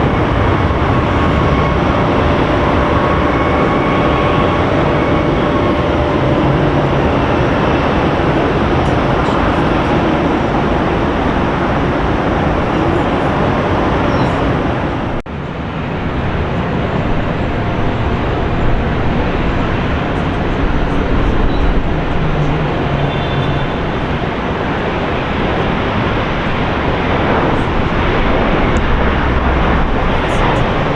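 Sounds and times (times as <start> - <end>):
jet engine rumbling rush: 0.0 - 30.9.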